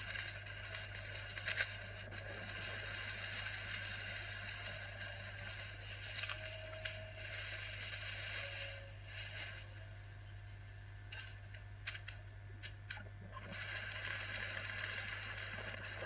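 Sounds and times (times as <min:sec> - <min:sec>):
high tape hiss: 0:00.0 - 0:16.0
low electrical hum: 0:00.0 - 0:16.0.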